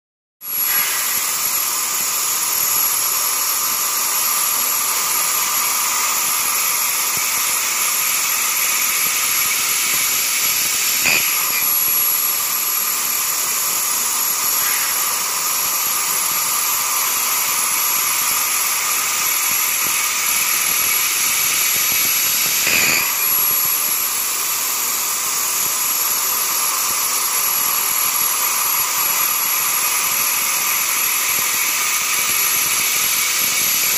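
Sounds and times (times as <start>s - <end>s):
milling machine cutting steel: 0.4s - 33.9s.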